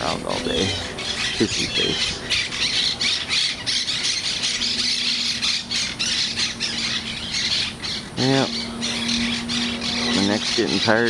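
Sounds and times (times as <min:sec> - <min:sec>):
parrots screeching: 0:00.0 - 0:11.0.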